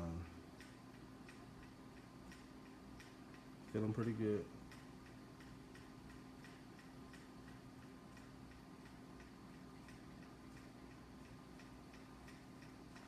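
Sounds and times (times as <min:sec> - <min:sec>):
faint regular ticking: 0:00.0 - 0:13.0.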